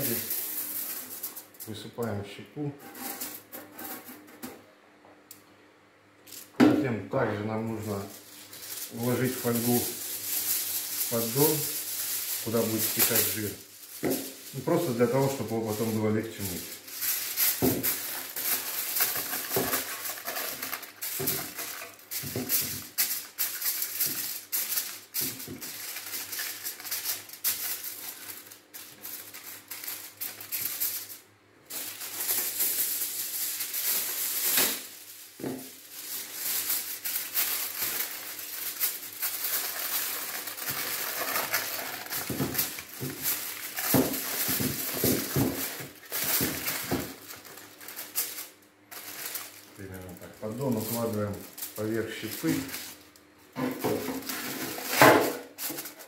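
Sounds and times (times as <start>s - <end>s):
aluminium foil crinkling: 0.0s - 1.9s, 2.9s - 4.1s, 6.2s - 56.0s.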